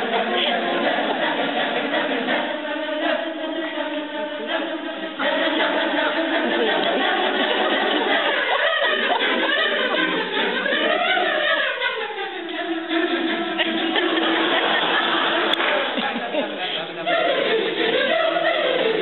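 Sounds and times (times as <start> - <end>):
choir singing sustained chords: 0.0 - 15.6.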